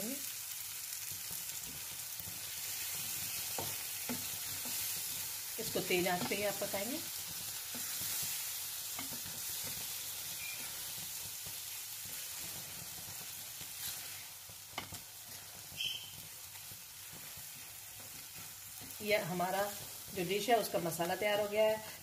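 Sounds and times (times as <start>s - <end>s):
food sizzling in a frying pan: 0.0s - 22.0s
spatula stirring in a pan: 0.5s - 22.0s.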